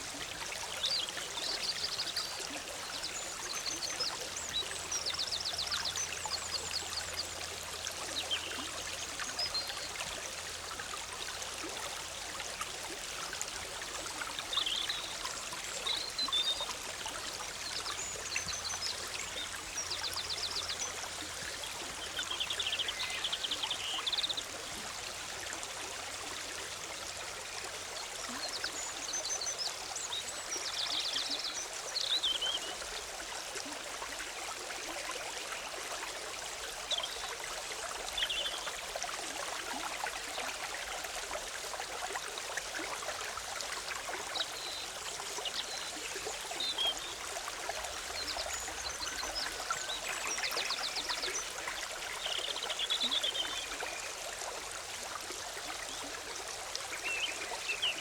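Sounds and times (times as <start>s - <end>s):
stream trickling over rocks: 0.0s - 58.0s.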